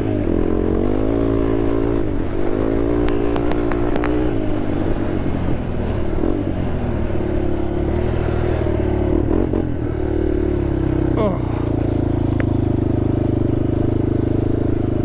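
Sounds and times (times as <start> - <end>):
quad bike engine under throttle: 0.0 - 15.0.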